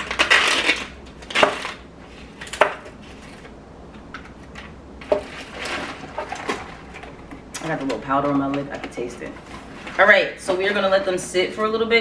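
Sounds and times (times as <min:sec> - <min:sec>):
plastic packaging rustling: 0:00.0 - 0:11.7.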